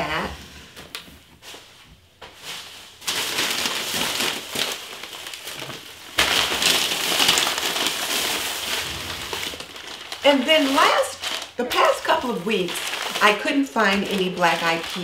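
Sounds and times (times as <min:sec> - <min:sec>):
plastic bag rustling: 0:01.4 - 0:15.0.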